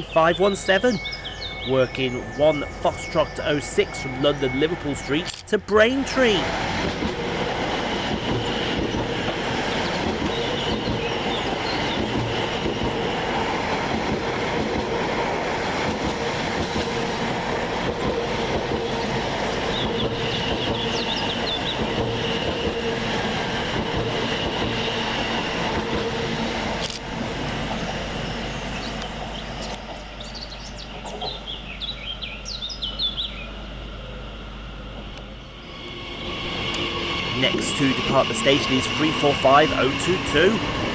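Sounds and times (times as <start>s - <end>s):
birds chirping: 0.0s - 16.9s, 17.5s - 26.3s, 27.4s - 34.2s, 35.0s - 40.9s
train wheels rushing on rail: 0.0s - 40.9s
train motor whine: 2.8s - 15.0s, 15.6s - 40.9s.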